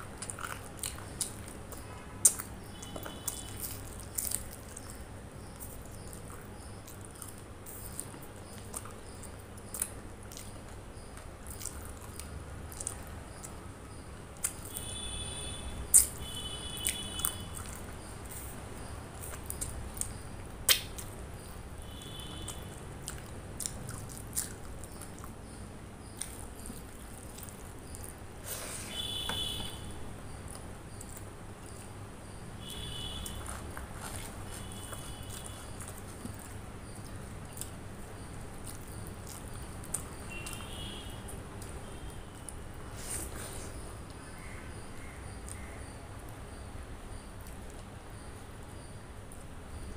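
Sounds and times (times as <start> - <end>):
wet chewing and smacking: 0.0 - 15.1, 15.9 - 28.3, 29.0 - 44.3.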